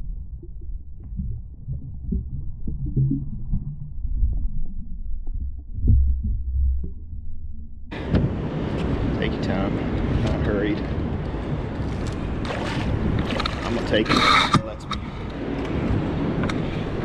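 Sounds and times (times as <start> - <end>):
underwater rumble of moving water: 0.0 - 17.0.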